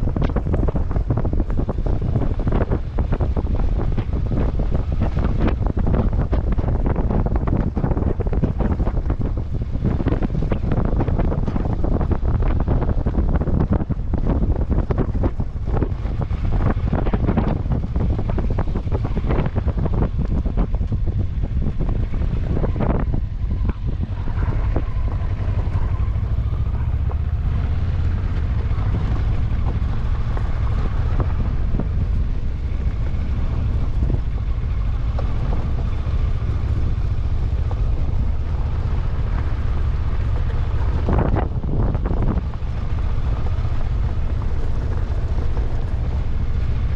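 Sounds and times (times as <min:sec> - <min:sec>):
vehicle engine rumbling: 0:00.0 - 0:46.9
wind buffeting microphone: 0:00.0 - 0:46.9.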